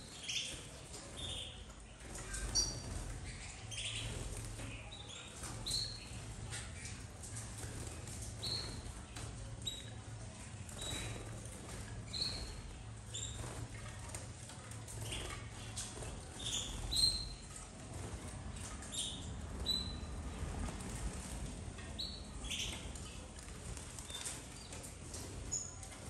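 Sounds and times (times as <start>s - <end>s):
canaries chirping: 0.0s - 26.0s
birds tapping on perches: 0.1s - 26.0s
wings fluttering: 0.1s - 26.0s.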